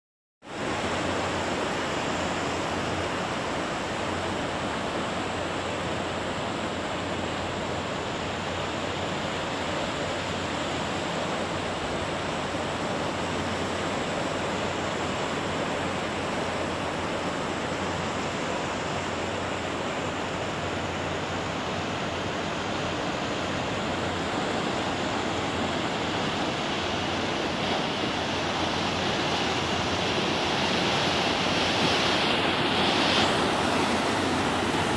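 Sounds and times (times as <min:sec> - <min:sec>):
flood water rushing: 0:00.4 - 0:34.9.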